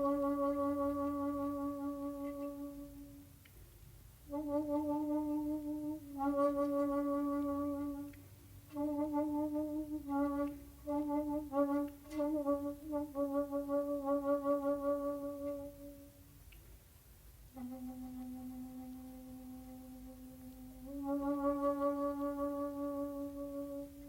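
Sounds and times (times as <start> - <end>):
shakuhachi flute playing long notes: 0.0 - 3.4, 4.3 - 16.2, 17.5 - 24.0.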